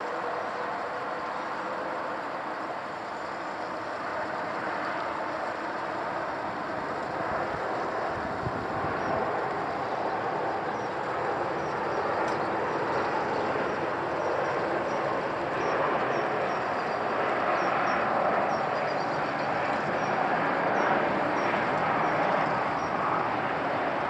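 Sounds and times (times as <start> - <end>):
jet airliner flying overhead: 0.0 - 24.0.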